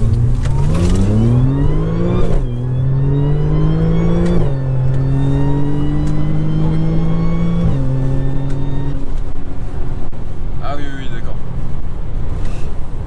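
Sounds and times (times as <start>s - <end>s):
gearshift exhaust crack: 0.0s - 12.8s
car engine accelerating: 0.0s - 13.0s.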